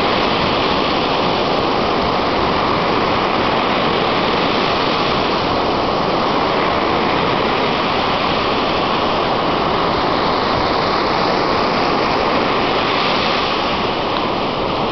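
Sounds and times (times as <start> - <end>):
waves breaking on beach: 0.0 - 14.9.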